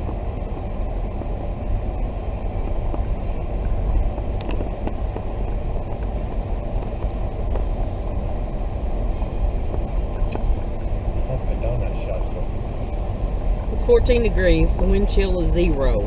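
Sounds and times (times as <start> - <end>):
car driving on snow: 0.0 - 16.0.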